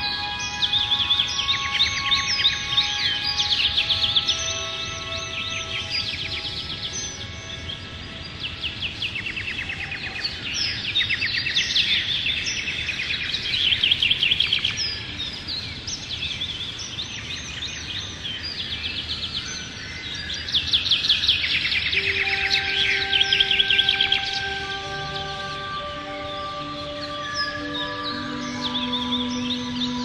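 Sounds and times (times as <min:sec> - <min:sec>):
soft sustained music pad: 0:00.0 - 0:30.0
songbirds trilling and chirping: 0:00.0 - 0:30.0.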